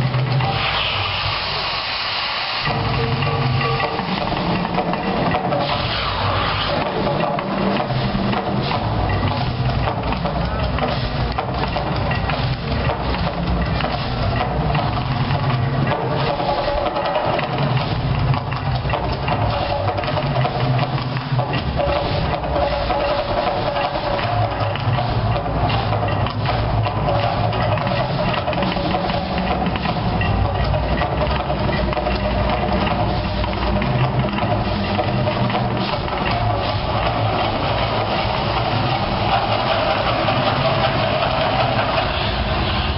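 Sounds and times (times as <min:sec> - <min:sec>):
dense rushing noise: 0:00.0 - 0:42.9.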